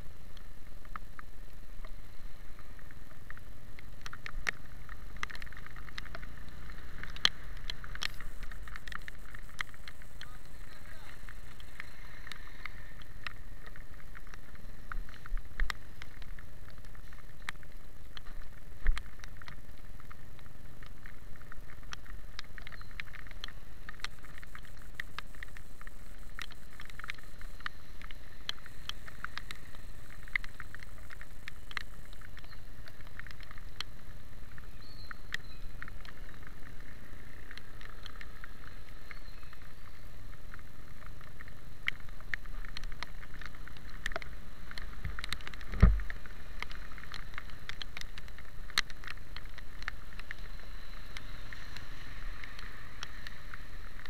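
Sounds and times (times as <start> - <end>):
motorcycle engine and tyres rumble: 0.0 - 54.0
raindrops ticking on camera: 0.0 - 54.0.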